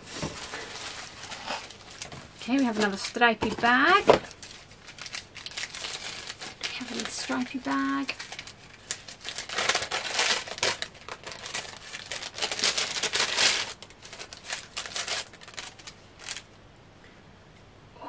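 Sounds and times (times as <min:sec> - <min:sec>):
gift bag crinkling and rustling: 0:00.0 - 0:16.5.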